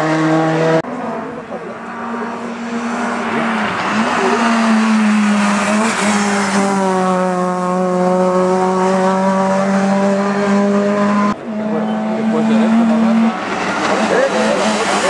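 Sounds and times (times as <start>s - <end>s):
race car engine revving high: 0.0s - 15.0s.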